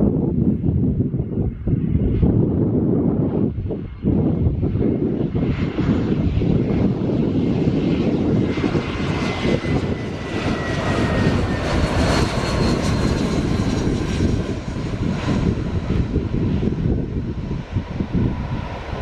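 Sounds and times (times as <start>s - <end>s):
jet engines rumbling overhead: 0.0s - 19.0s.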